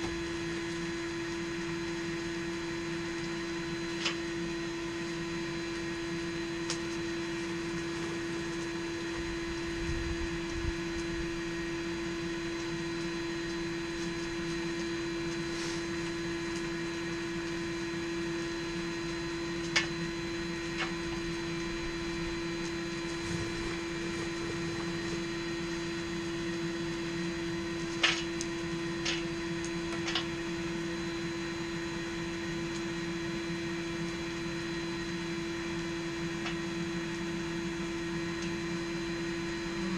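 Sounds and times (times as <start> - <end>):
electric blower humming: 6.3 - 35.1, 35.9 - 39.9.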